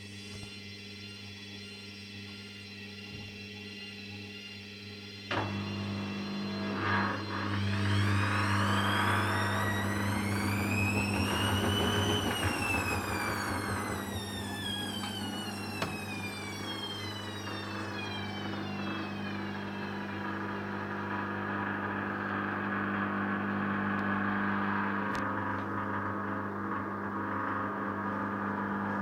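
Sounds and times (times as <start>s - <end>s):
washing machine motor whining: 0.0s - 29.0s
low hum: 5.3s - 29.0s.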